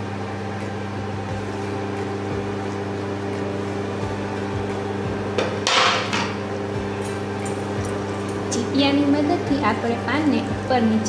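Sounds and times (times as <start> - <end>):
cooling fan: 0.0 - 11.0
induction cooktop electrical hum: 0.0 - 11.0.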